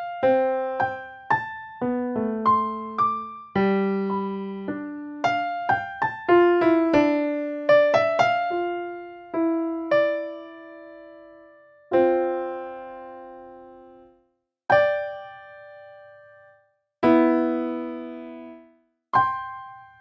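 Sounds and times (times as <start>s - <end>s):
solo piano music: 0.0s - 20.0s.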